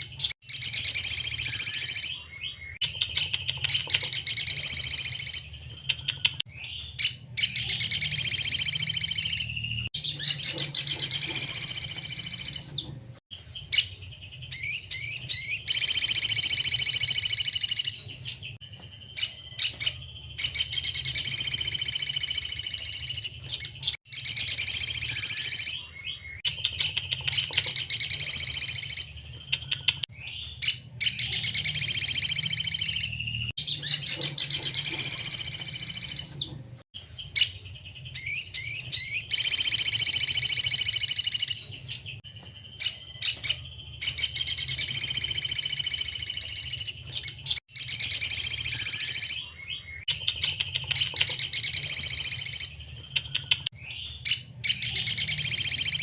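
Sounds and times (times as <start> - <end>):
bird chirping and trilling: 0.0 - 56.0.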